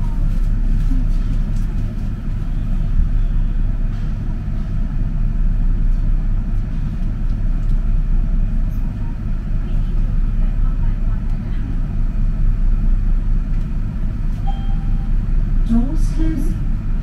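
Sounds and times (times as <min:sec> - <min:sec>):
rail car rumbling: 0:00.0 - 0:17.0.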